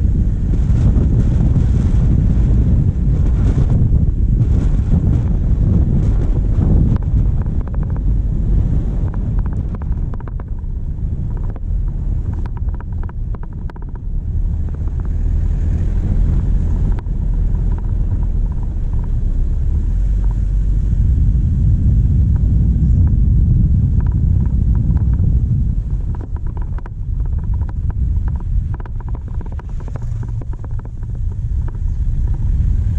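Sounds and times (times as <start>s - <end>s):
diesel engine running: 0.0s - 32.9s
wind buffeting microphone: 0.0s - 32.9s.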